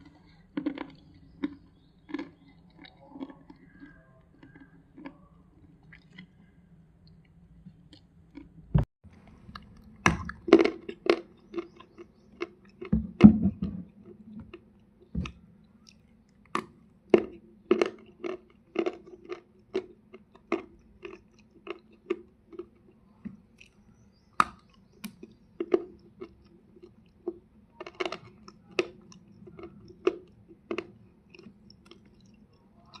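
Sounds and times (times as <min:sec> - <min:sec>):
clay crunching as chewed: 0:00.0 - 0:08.6, 0:09.2 - 0:33.0
faint low hum: 0:00.0 - 0:33.0.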